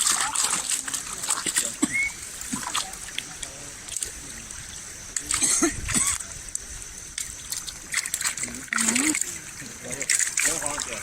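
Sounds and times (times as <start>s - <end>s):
river water trickling and splashing: 0.0s - 11.0s.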